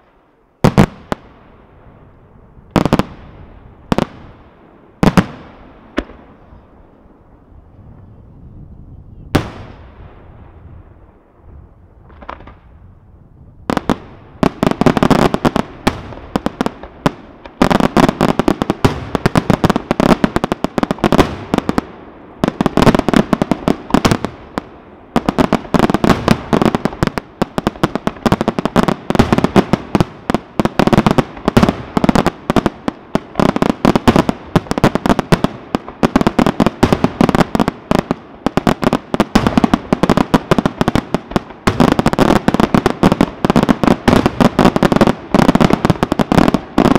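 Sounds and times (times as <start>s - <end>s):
fireworks bursting with sharp bangs: 0.0s - 46.9s.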